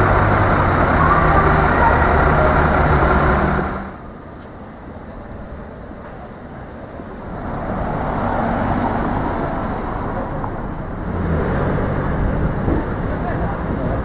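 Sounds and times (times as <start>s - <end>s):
street traffic passing: 0.0s - 14.0s
vehicle engine low hum: 0.0s - 14.0s.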